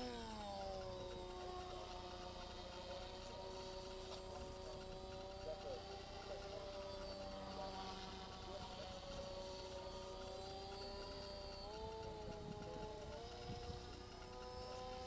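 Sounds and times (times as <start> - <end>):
model airplane motor whining: 0.0 - 15.0.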